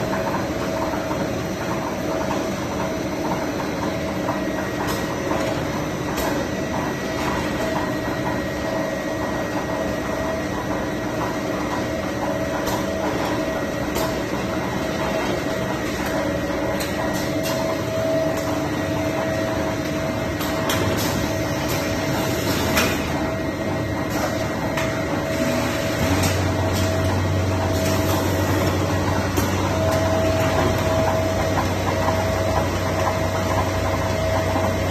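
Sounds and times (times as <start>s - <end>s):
deeper machine hum: 0.0s - 34.9s
machine clicks and clacks: 0.0s - 34.9s
machinery humming: 0.0s - 34.9s.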